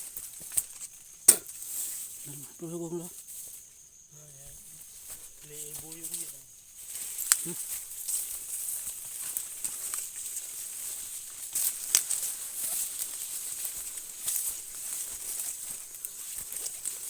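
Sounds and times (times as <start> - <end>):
dry corn leaves rustling: 0.0 - 17.0
footsteps through corn field: 0.0 - 17.0
night insects droning: 0.0 - 17.0.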